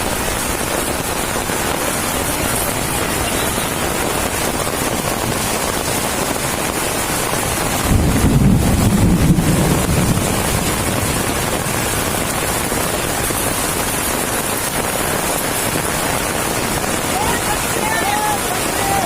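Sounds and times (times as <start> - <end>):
flood torrent rushing: 0.0 - 19.0.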